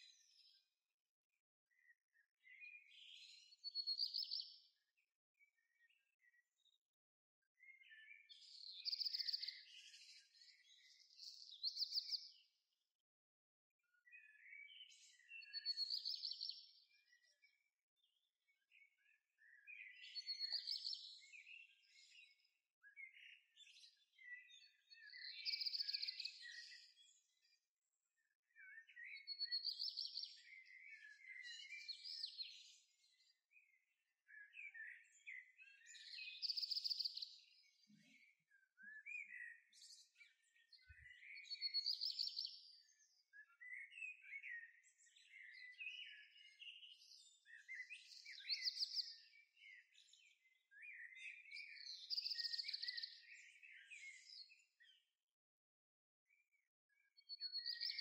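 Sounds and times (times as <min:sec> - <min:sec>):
songbirds chirping and singing: 0:00.0 - 0:13.0, 0:13.8 - 0:55.3, 0:56.3 - 0:58.0.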